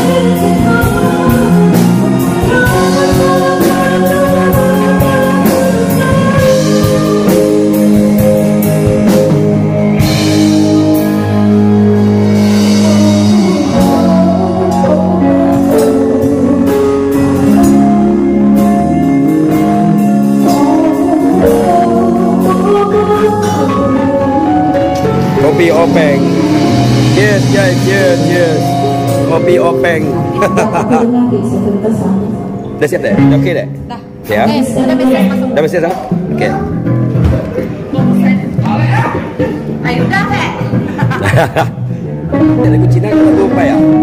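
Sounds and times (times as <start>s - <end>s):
drum kit beat: 0.0s - 32.2s, 33.1s - 44.0s
electric guitar chords: 0.0s - 44.0s.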